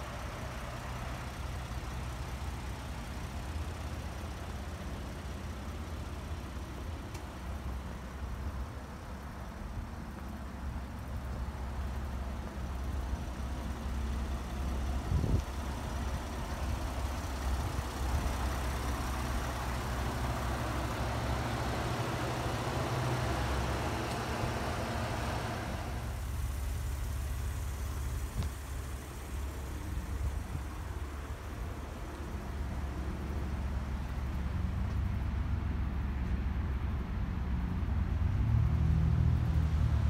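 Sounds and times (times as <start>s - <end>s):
pickup truck engine idling: 0.0s - 36.0s.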